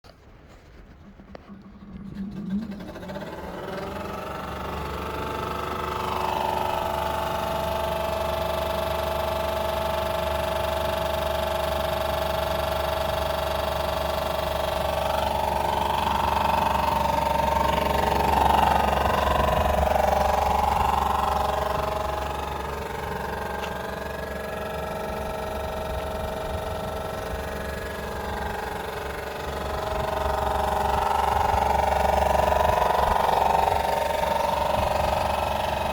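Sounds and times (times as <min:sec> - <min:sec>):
loud car fans humming and whining: 0:00.4 - 0:35.9.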